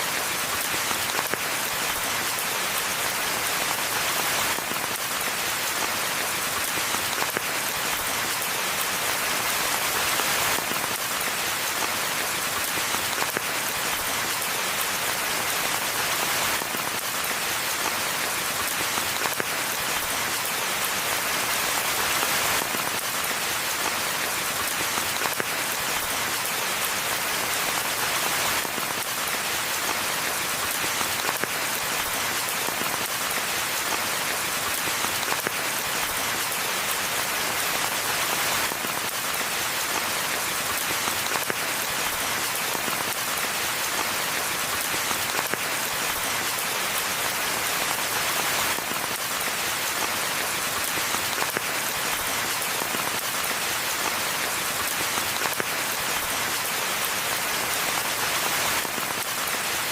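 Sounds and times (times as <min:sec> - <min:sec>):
rain pattering on foliage: 0:00.0 - 0:59.9.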